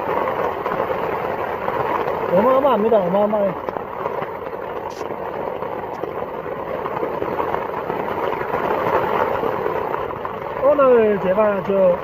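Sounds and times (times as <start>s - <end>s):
heavy rain on tent fabric: 0.0s - 12.0s.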